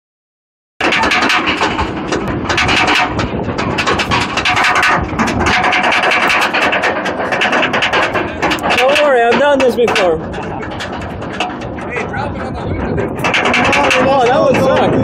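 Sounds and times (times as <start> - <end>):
lift chain clatter: 0.8 - 15.0
roller coaster ratchet clicking: 0.8 - 15.0.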